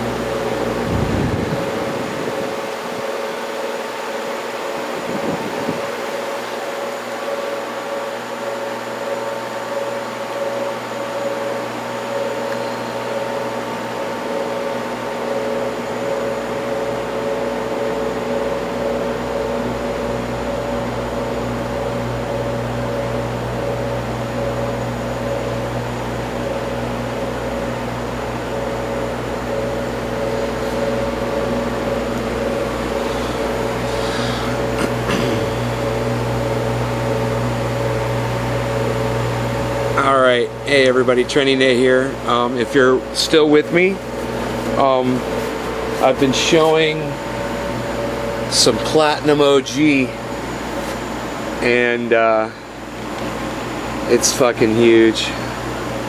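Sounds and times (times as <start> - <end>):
equipment hum and fan noise: 0.0 - 56.0.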